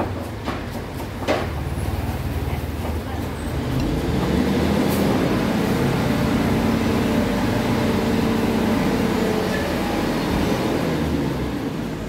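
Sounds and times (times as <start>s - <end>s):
vehicle engine running: 1.6s - 12.0s.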